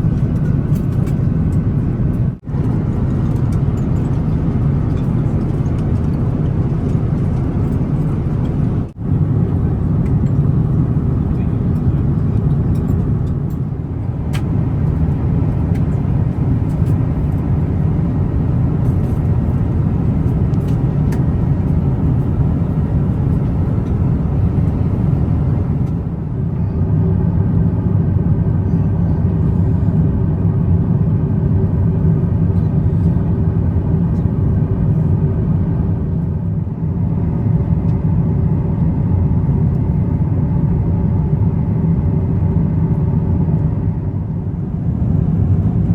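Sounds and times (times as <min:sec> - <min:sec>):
airplane cabin rumble: 0:00.0 - 0:45.9.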